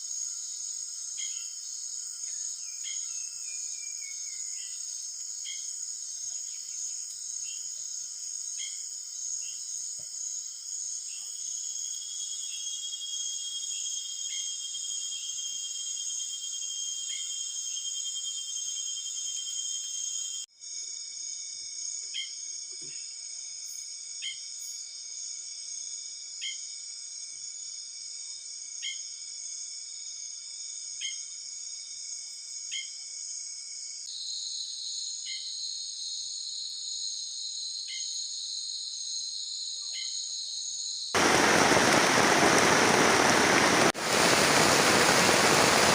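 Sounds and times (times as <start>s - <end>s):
forest insects chorus: 0.0s - 45.9s.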